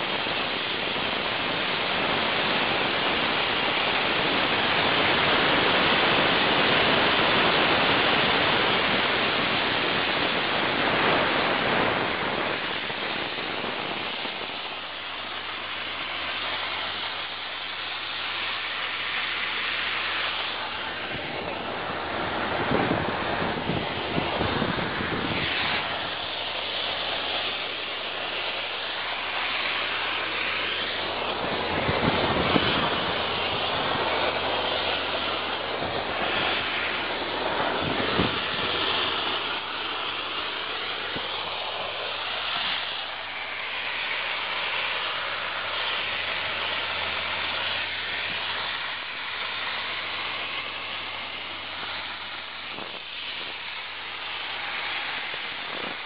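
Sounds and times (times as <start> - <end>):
low steady hum: 0.0 - 56.0
rain and wind on microphone: 0.0 - 56.0.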